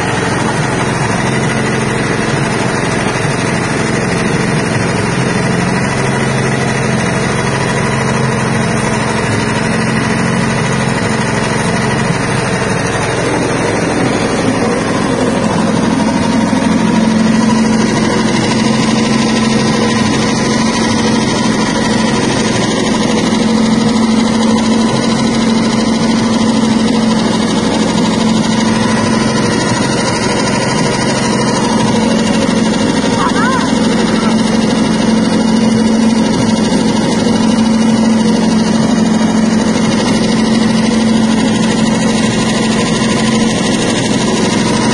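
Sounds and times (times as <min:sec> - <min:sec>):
machine motor hum: 0:00.0 - 0:44.9.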